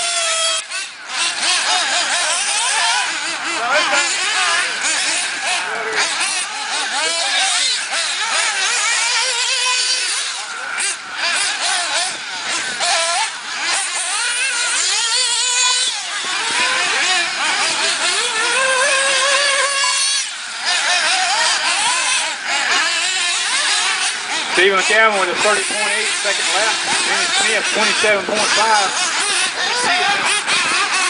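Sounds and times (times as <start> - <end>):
rc car engines whining: 0.0 - 31.0.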